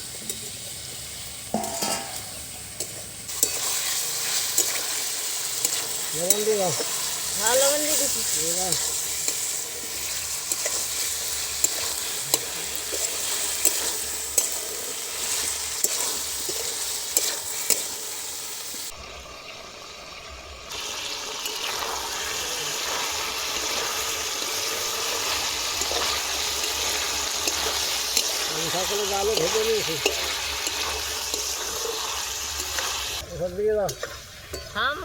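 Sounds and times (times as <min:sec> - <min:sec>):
food sizzling in oil in a pan: 0:00.0 - 0:35.0
spatula scraping a pan: 0:01.5 - 0:18.1, 0:21.4 - 0:33.2.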